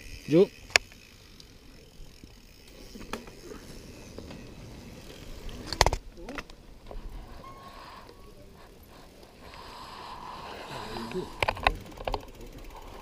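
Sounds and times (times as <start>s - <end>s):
bike rumbling over rough trail: 0.0s - 7.5s, 9.6s - 13.0s.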